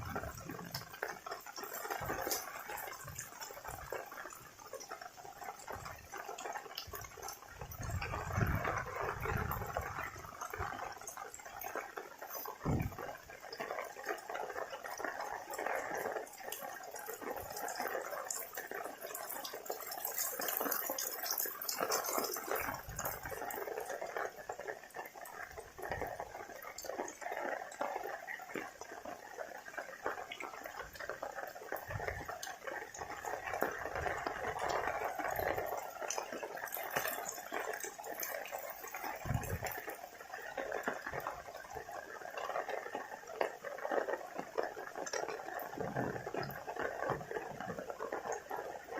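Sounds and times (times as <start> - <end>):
heavy rain falling: 0.0 - 25.0, 29.6 - 48.9.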